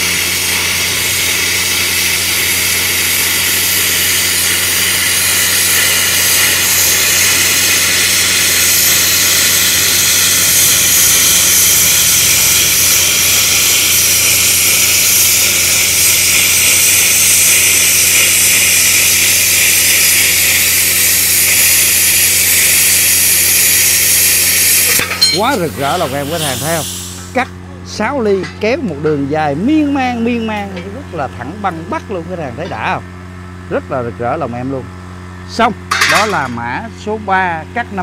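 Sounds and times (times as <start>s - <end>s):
plasma cutter hissing: 0.0s - 33.0s, 35.6s - 36.8s.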